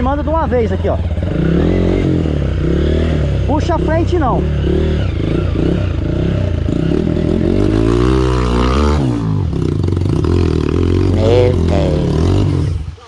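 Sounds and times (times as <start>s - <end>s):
dirt bike engine idling and revving: 0.0s - 13.0s.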